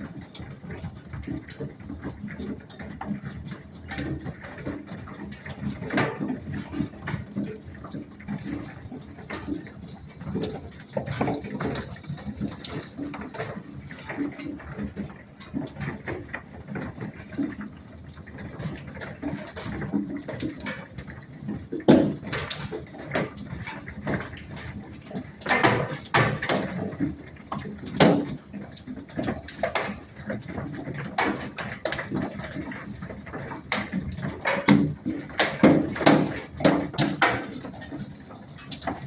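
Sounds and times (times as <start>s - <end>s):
hail pattering: 0.0s - 39.0s
rain: 0.0s - 39.0s.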